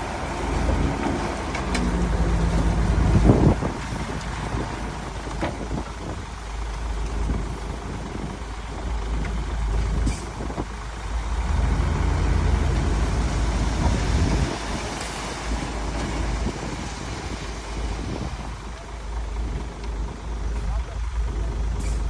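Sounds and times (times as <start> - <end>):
heavy machinery diesel engine rumble: 0.0 - 22.0.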